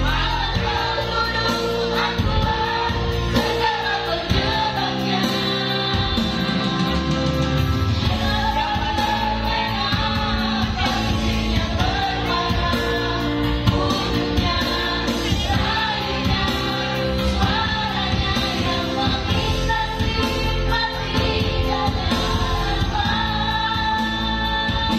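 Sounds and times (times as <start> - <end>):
women singing through pa system: 0.0 - 7.3, 8.0 - 24.9
electronic keyboard accompaniment: 0.0 - 24.9.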